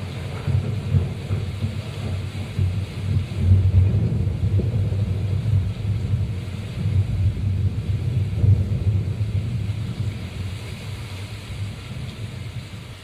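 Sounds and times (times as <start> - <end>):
rain hissing: 0.0 - 13.0
thunder rumbling: 0.0 - 13.0.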